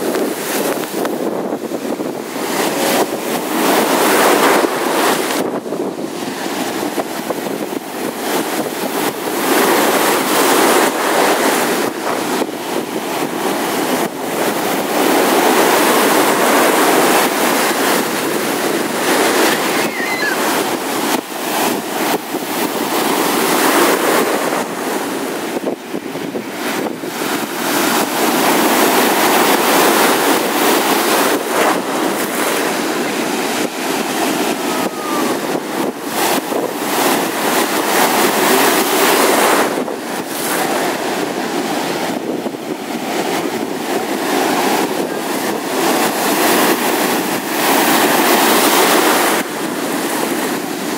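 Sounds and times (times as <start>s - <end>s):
surf breaking and foaming: 0.0s - 50.9s.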